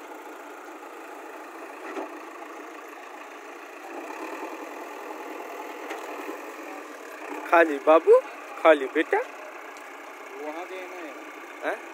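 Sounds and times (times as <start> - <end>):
diesel engine running at low revs: 0.0 - 11.9.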